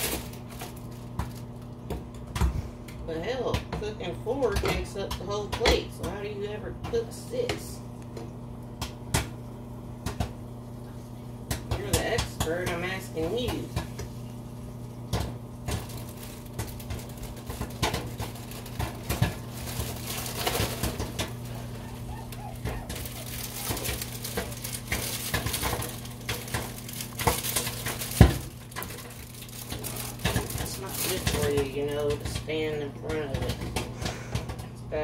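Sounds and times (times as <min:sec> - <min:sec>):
microwave oven humming: 0:00.0 - 0:35.0
popcorn popping: 0:00.0 - 0:35.0.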